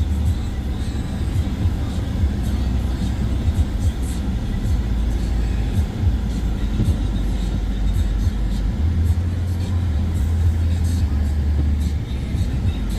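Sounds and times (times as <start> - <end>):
car engine and tyre rumble: 0.0 - 12.9.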